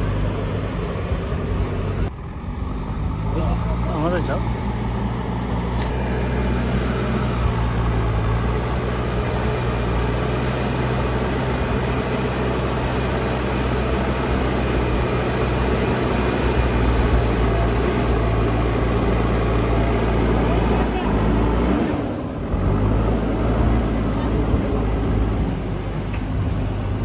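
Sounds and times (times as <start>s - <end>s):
large engine humming: 0.0s - 27.0s.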